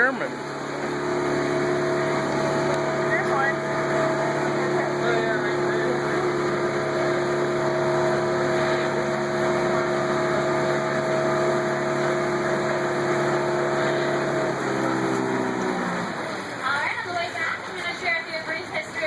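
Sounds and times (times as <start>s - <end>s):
boat motor humming with whine: 0.0s - 19.0s.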